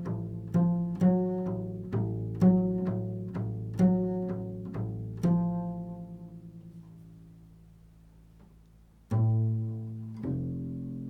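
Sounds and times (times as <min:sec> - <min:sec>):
low plucked string notes: 0:00.0 - 0:07.7, 0:09.1 - 0:11.0.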